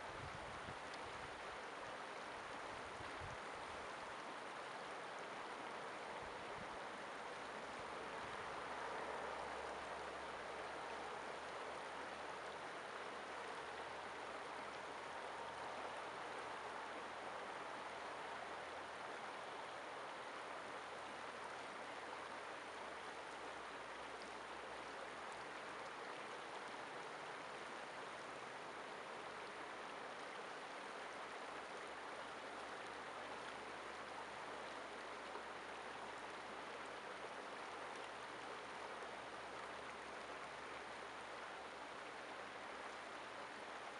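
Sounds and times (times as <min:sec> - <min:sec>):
river flowing over rocks: 0:00.0 - 0:43.9.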